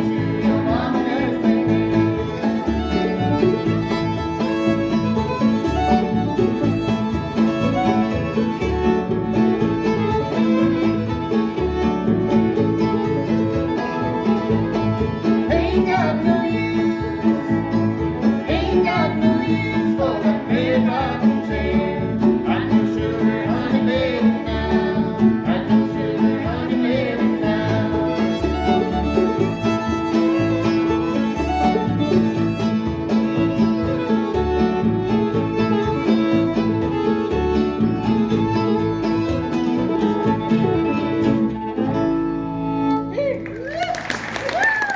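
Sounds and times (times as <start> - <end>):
banjo playing: 0.0 - 43.3
guitar strumming: 0.0 - 43.4
fiddle playing: 0.0 - 43.9.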